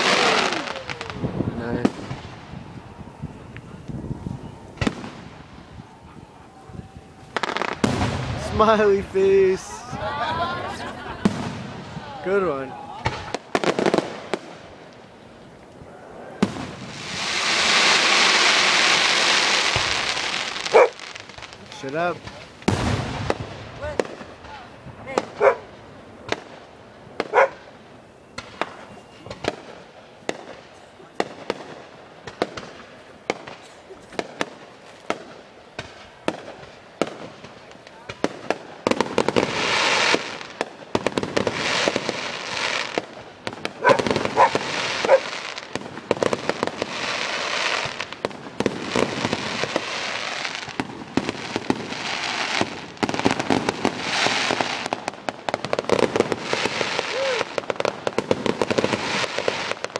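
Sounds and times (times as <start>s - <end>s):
firework bangs: 0.0s - 59.9s
firework crackling barrage: 0.0s - 59.9s.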